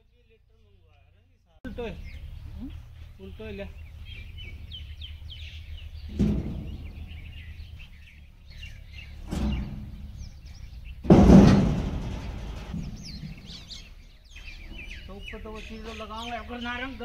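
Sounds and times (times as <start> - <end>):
birds chirping: 0.0 - 17.0
hollow metal clunks with scraping: 2.0 - 17.0.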